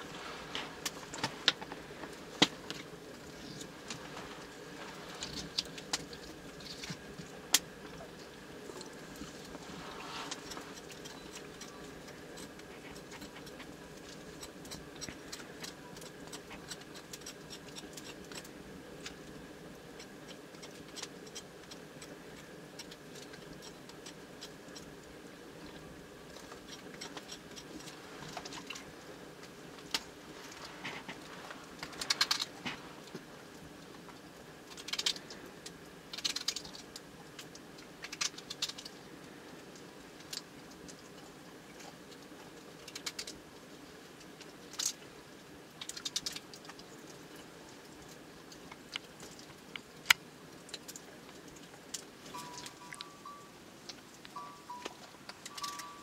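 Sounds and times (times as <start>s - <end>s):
faint background hum: 0.0s - 56.0s.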